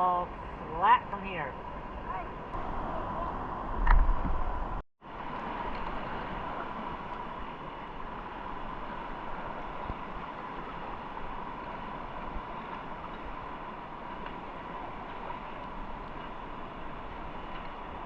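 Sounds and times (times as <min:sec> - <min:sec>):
river water rushing: 0:01.6 - 0:18.0.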